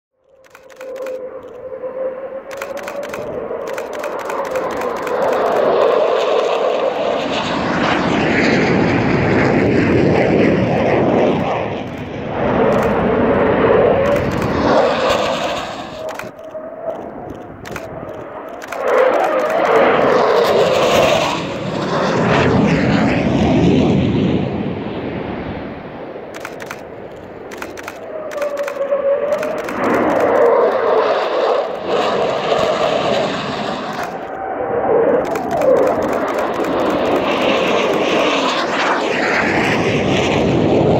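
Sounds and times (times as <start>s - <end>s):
jet engines roaring: 0.4s - 40.9s.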